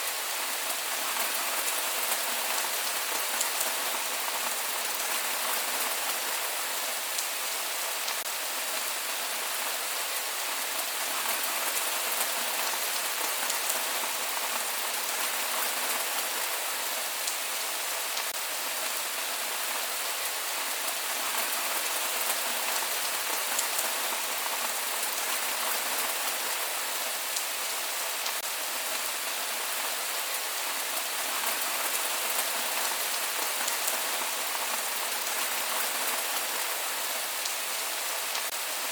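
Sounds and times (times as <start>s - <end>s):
steady rain on a surface: 0.0s - 38.9s.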